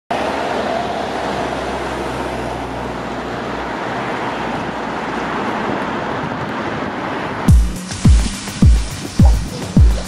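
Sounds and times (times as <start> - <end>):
cars driving by: 0.1 - 10.0.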